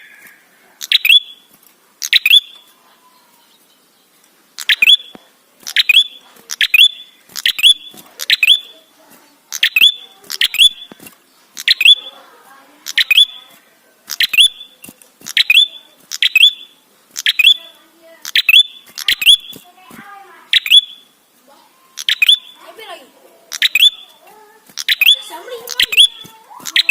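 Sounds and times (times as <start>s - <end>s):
songbird chirping sharply: 0.0s - 13.5s, 14.1s - 19.8s, 20.4s - 21.3s, 21.9s - 22.7s, 23.5s - 24.2s, 24.8s - 26.9s.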